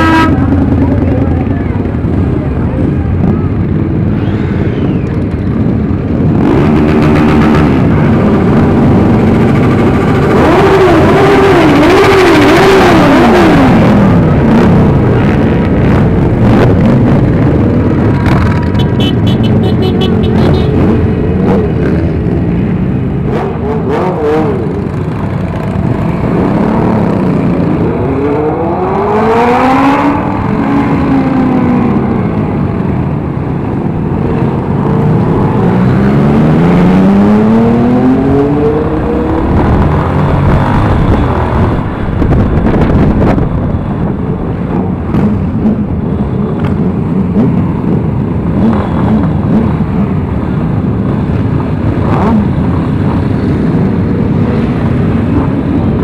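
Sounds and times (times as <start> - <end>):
motorcycle accelerating: 0.0 - 56.0
motorcycle engines revving: 0.0 - 56.0.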